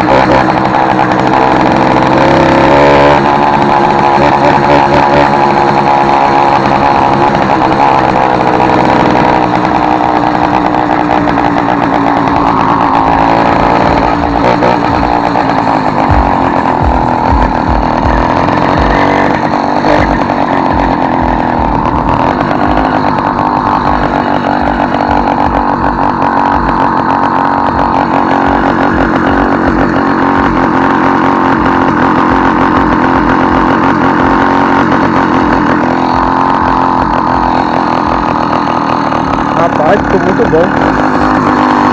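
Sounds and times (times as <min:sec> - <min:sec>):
raspy two-stroke engine revving: 0:00.0 - 0:41.9.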